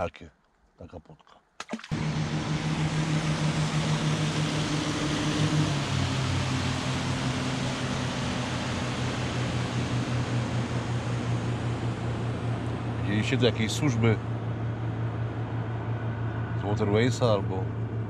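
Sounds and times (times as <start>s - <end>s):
motorboat engine running: 1.8s - 18.0s.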